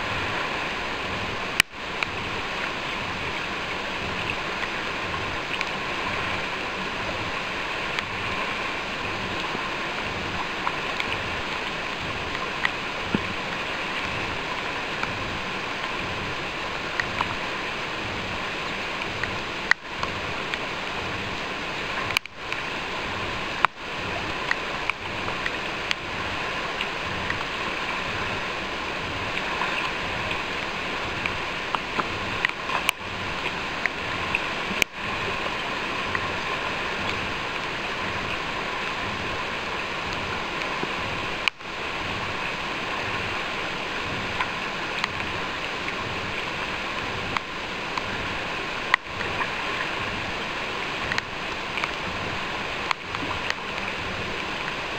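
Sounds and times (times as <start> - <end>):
river water rushing over rocks: 0.0 - 54.9.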